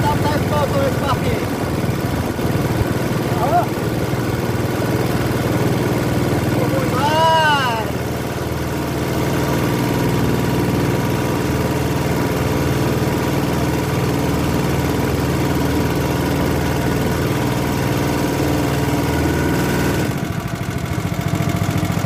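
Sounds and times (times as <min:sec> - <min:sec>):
small boat engine running: 0:00.0 - 0:22.0.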